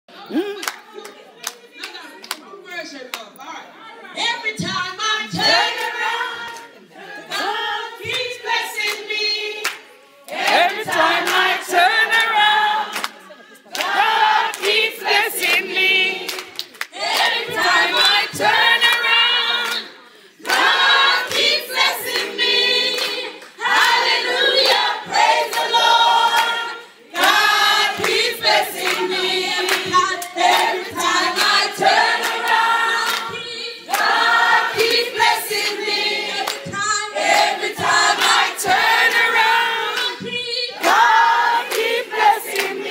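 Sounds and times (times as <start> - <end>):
group of voices singing: 4.2 - 42.9.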